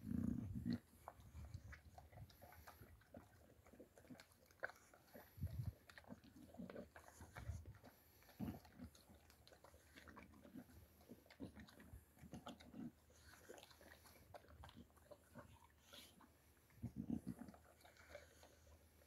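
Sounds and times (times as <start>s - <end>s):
dog chewing and biting: 0.0s - 19.0s.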